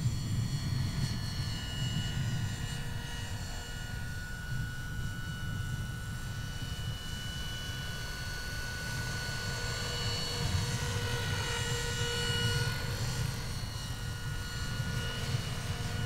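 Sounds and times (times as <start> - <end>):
electric motor high whine: 0.0 - 16.0
helicopter rotor noise: 0.0 - 16.0.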